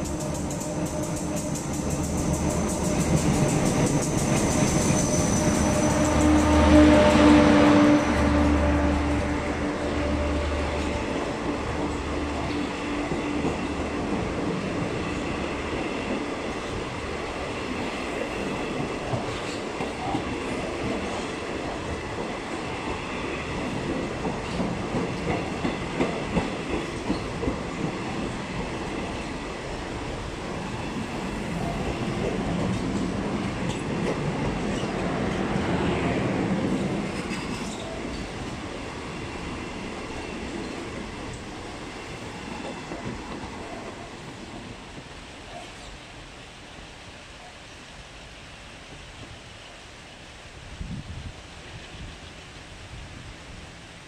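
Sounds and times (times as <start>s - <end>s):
train wheels rumbling on rails: 0.0s - 46.1s.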